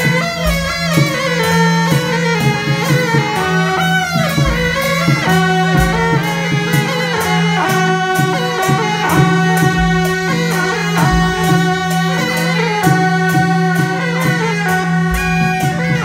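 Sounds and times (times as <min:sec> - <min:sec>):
gong and cymbal strikes: 0:00.0 - 0:16.0
wind instruments playing melody: 0:00.0 - 0:16.0.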